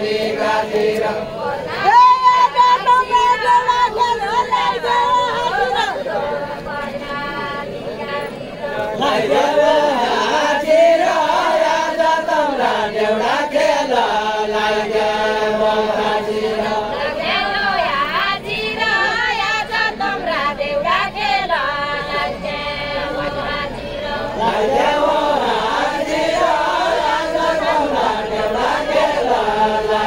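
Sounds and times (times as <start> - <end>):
group of people chanting folk song: 0.0 - 30.0.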